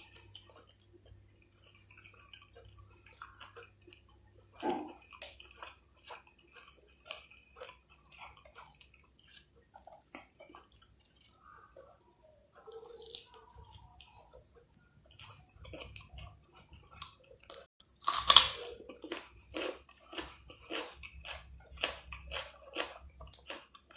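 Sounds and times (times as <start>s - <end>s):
person chewing: 0.0s - 23.9s.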